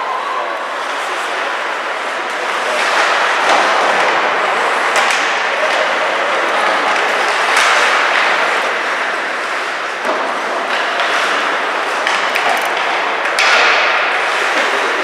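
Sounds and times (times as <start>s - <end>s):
sticks and puck clacking: 2.2s - 15.0s.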